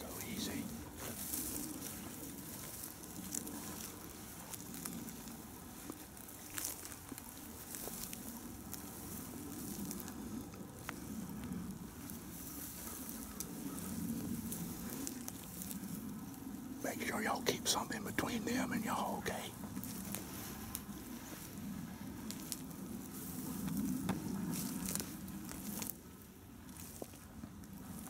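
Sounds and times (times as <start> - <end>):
footsteps crunching through dry leaves: 0.0 - 28.0.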